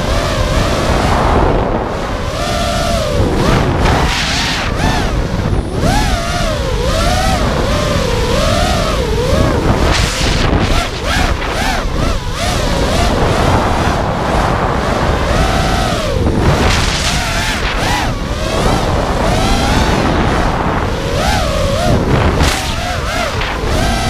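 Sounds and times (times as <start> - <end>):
drone motors whining: 0.0 - 24.0
wind rumble on microphone: 0.0 - 24.0.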